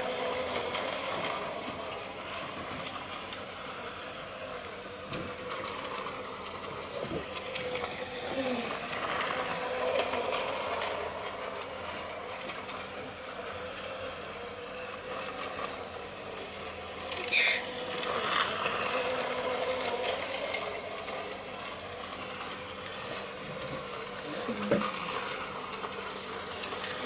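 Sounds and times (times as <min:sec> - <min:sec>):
toy train motor whirring: 0:00.0 - 0:27.0
wheels and gears clicking: 0:00.0 - 0:27.0.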